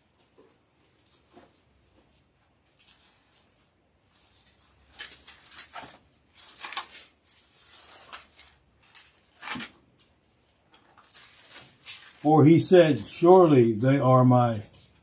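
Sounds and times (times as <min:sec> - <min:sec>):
thin pages rustling: 0:00.9 - 0:15.0.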